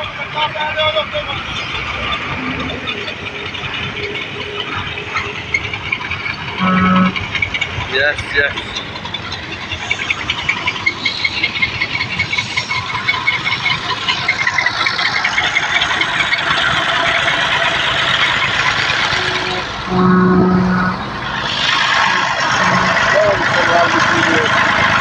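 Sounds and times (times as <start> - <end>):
diesel tractor engine clattering: 0.0 - 25.0
loud steady pitched tone: 0.8 - 25.0.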